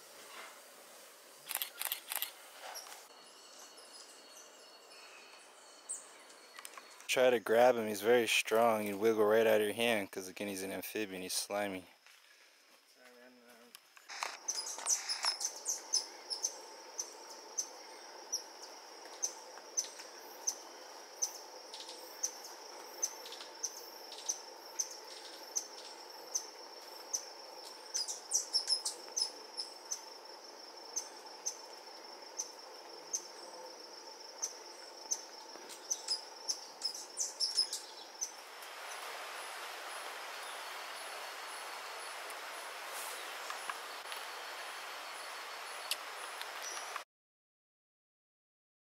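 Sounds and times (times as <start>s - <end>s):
insect drone: 0.0s - 47.0s.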